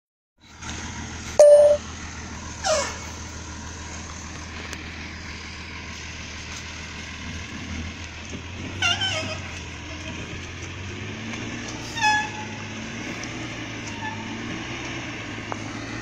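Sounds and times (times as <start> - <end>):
truck engine humming: 0.5 - 16.0.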